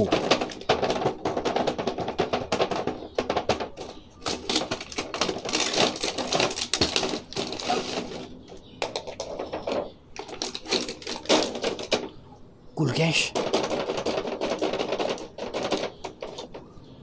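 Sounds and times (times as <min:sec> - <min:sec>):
plastic and cardboard crackling: 0:00.0 - 0:17.0.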